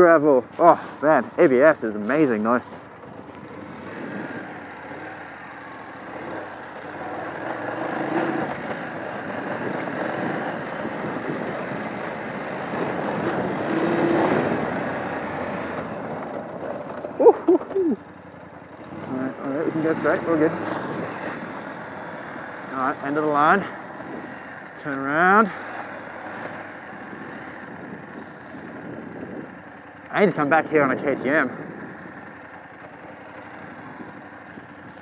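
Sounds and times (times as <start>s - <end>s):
motorcycle engine running: 0.0s - 35.0s
tyres on loose gravel: 0.0s - 35.0s.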